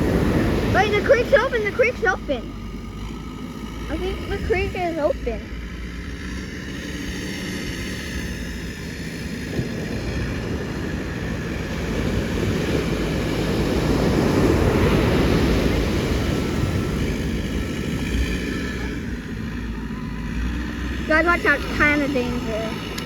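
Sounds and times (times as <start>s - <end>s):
ocean waves breaking: 0.0s - 23.0s
wind buffeting microphone: 0.0s - 23.0s.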